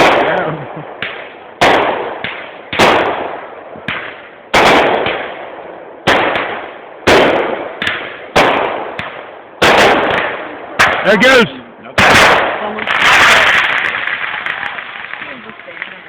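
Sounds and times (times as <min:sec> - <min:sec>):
loud firework bangs: 0:00.0 - 0:16.0.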